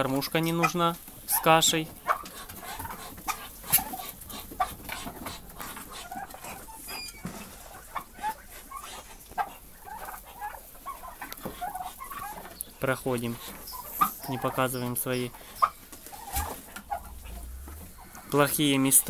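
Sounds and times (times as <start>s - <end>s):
poultry clucking and calling: 0.0s - 19.0s.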